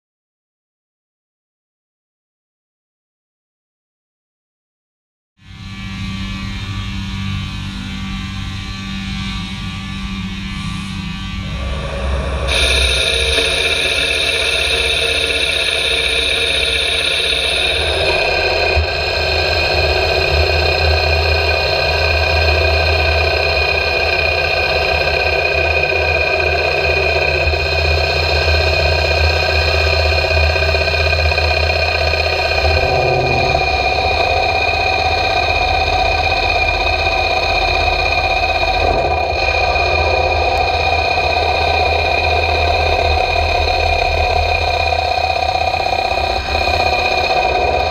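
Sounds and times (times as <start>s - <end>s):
lathe machine whine: 5.7s - 47.9s.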